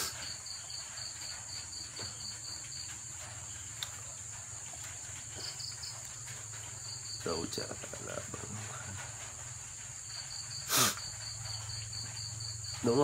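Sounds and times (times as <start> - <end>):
crickets trilling: 0.0 - 13.0
pulsed cricket chirp: 0.0 - 13.0.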